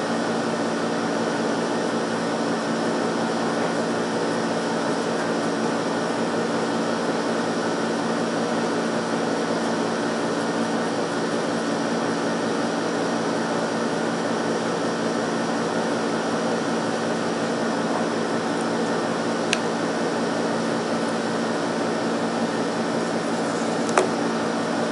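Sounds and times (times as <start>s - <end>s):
mechanical whir with low hum: 0.0s - 24.9s.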